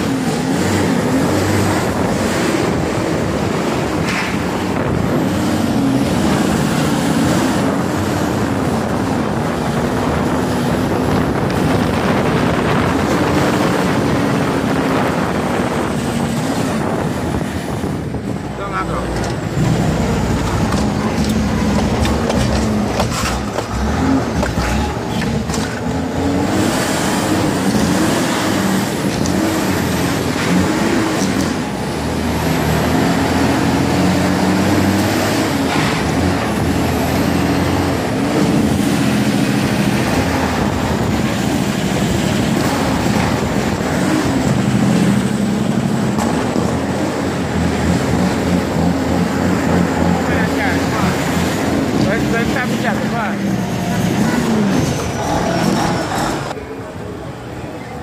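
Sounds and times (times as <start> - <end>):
truck diesel engine shifting gears: 0.0 - 58.0.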